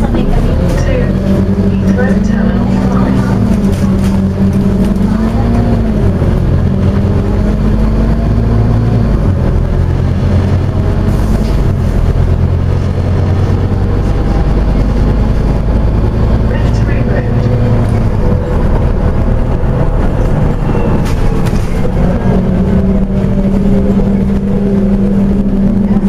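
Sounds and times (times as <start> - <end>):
bus diesel engine running: 0.0 - 26.0
road and tyre noise: 0.0 - 26.0.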